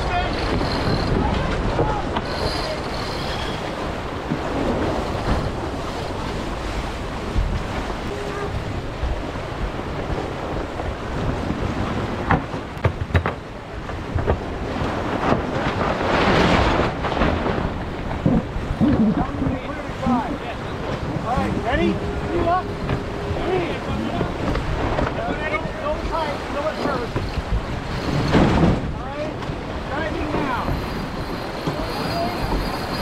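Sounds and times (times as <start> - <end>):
water rushing past hull: 0.0 - 33.0
wind buffeting microphone: 0.0 - 33.0.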